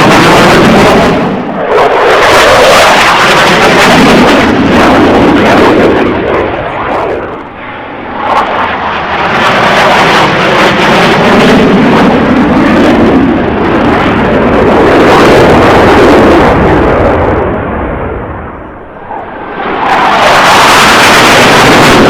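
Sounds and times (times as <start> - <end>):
jets making a low pass: 0.0 - 22.0.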